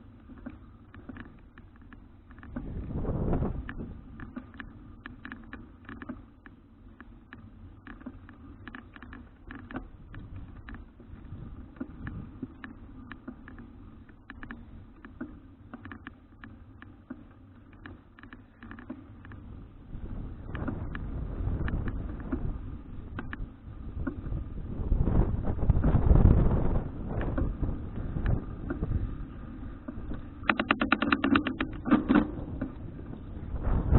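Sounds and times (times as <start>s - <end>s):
bicycle rattles and clicks: 0.0s - 33.9s
rumble of wind and road: 0.0s - 33.9s.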